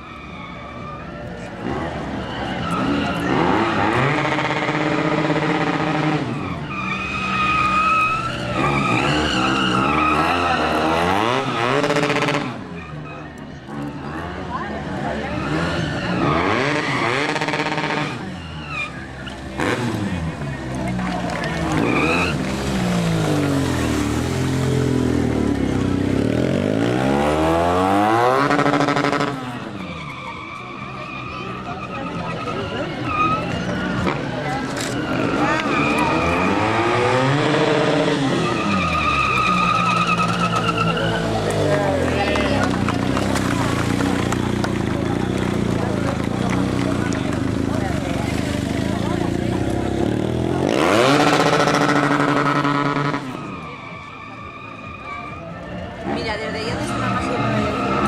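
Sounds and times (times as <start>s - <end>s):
motorcycle engine revving: 1.3s - 54.1s.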